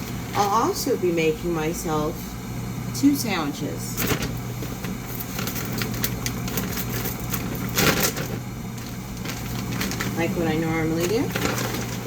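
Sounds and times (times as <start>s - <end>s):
dishwasher humming: 0.0s - 12.0s.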